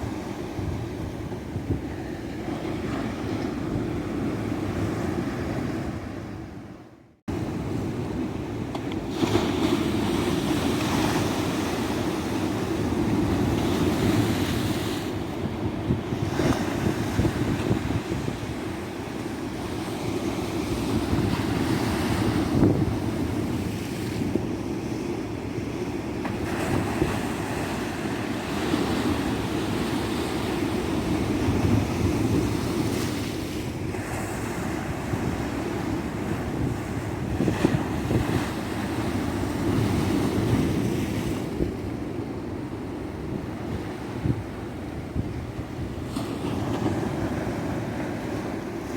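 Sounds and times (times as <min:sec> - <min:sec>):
wind buffeting microphone: 0:00.0 - 0:06.6, 0:07.3 - 0:48.9.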